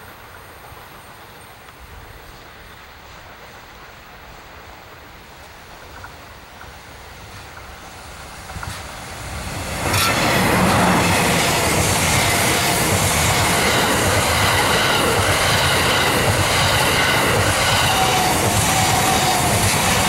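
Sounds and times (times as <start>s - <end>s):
high whine of train: 0.0s - 20.0s
train wheels rumbling on rails: 0.0s - 20.0s.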